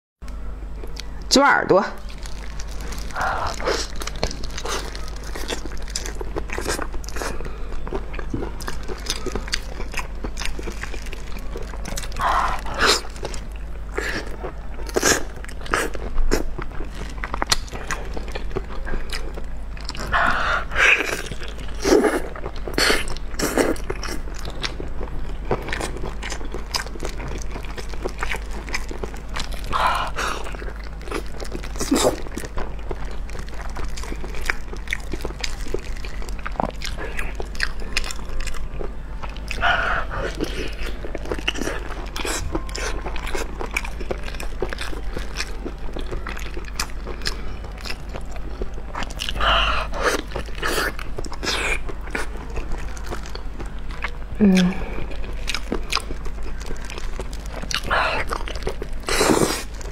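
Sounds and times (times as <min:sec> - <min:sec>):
biting and chewing: 0:02.0 - 0:59.9.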